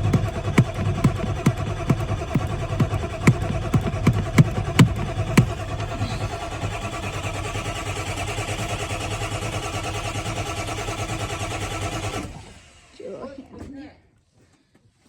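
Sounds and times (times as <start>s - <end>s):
diesel engine cranking: 0.0s - 13.2s.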